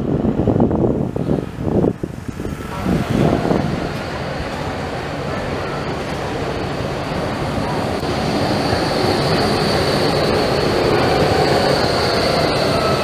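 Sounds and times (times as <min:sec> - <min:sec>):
high whine: 0:00.0 - 0:13.0
tram wheels rumbling on rails: 0:00.0 - 0:13.0.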